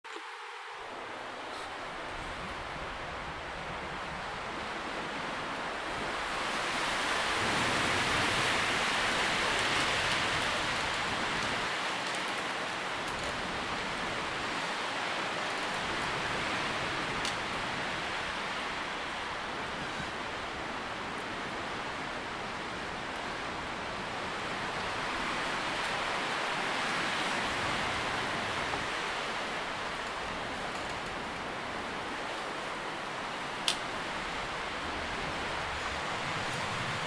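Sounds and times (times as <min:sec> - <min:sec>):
wind rustling tree leaves: 0:00.0 - 0:37.0.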